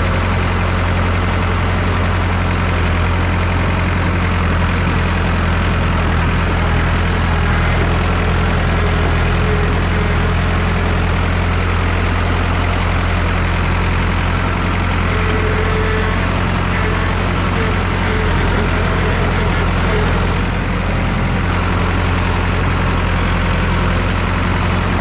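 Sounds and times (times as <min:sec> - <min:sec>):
tractor engine running steadily: 0:00.0 - 0:25.0.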